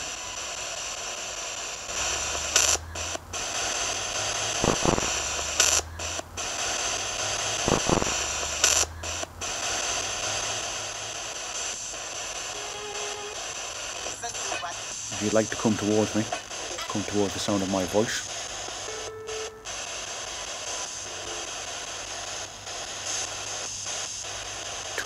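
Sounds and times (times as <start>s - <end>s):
radio static: 1.7s - 25.0s
radio blips: 1.8s - 25.0s.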